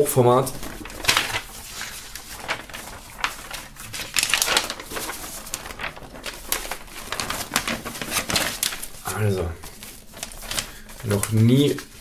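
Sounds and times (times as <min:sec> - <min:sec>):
paper poster rustling: 0:00.0 - 0:12.0.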